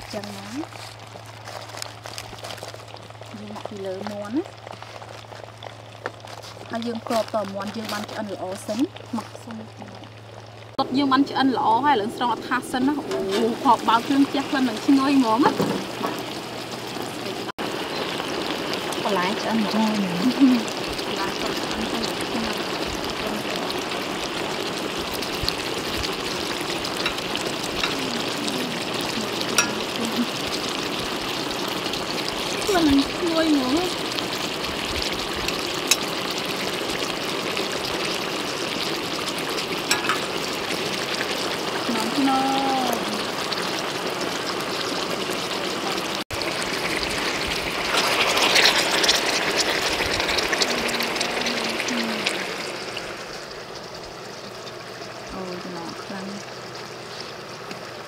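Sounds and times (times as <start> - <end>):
broth bubbling and hissing: 0.0 - 58.0.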